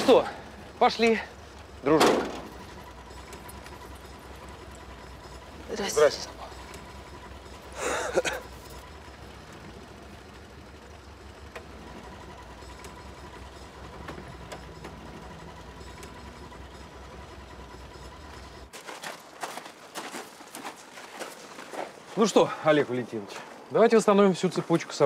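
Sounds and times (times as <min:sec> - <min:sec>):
low mechanical hum: 0:00.0 - 0:22.2.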